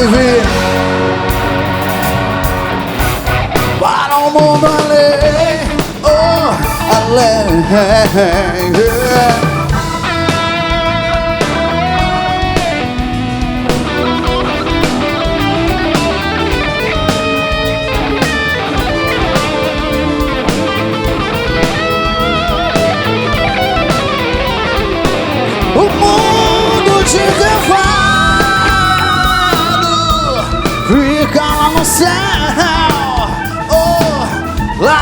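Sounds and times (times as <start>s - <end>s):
electric guitar lead: 0.0s - 35.0s
steady drum beat: 0.0s - 35.0s.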